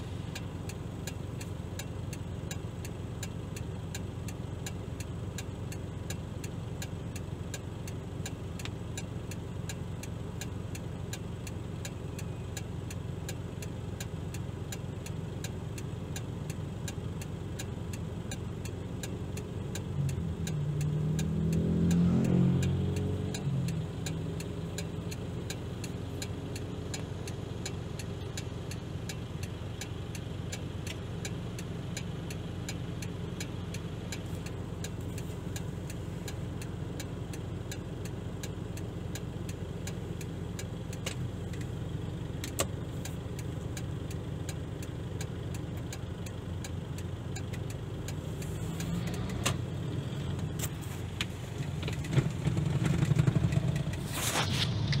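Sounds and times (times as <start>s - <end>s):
light regular ticking: 0.0s - 54.1s
car engine idling: 0.0s - 55.0s.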